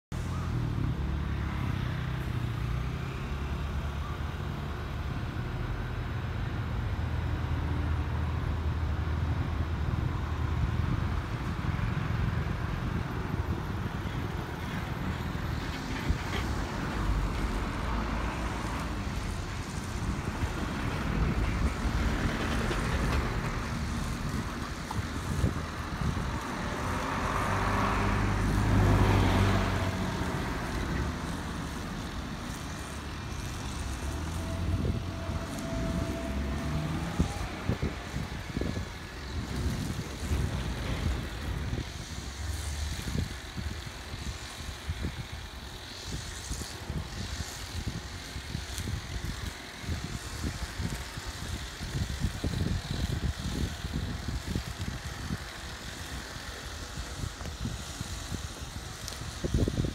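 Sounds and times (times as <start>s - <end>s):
electric trains humming and rumbling: 0.1s - 59.9s.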